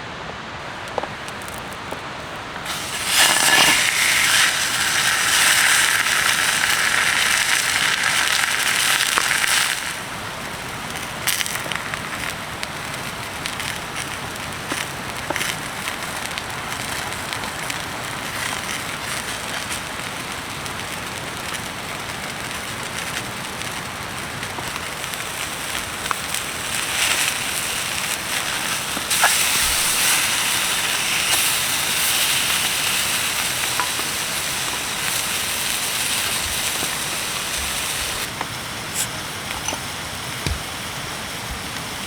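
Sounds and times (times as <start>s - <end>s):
rain hissing: 0.0s - 42.0s
wood fire crackling: 0.0s - 42.0s
loud high hiss: 1.8s - 42.0s.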